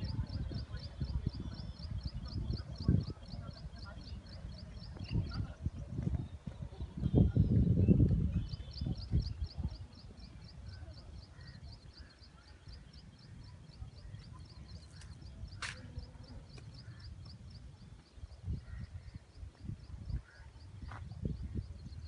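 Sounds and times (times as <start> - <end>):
wind rumble: 0.0 - 22.0.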